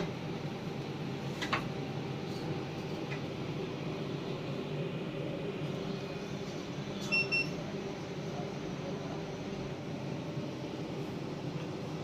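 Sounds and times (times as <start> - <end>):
fan hum with low drone: 0.0 - 12.0.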